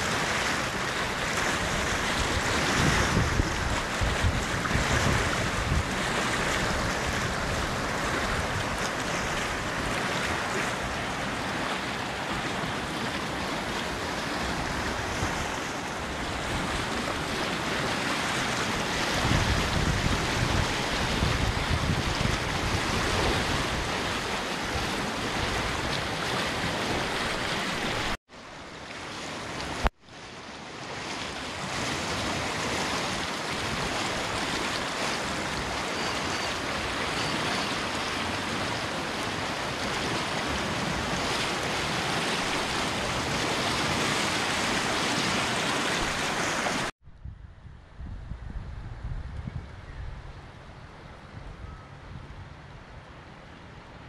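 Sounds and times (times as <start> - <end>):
water rushing through rapids: 0.0 - 46.9
wind buffeting microphone: 1.1 - 11.4, 12.2 - 28.2, 36.6 - 54.0.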